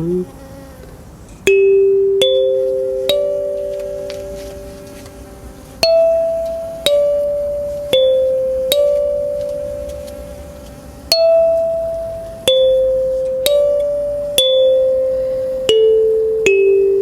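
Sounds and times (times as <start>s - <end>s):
kalimba melody: 1.5s - 17.0s.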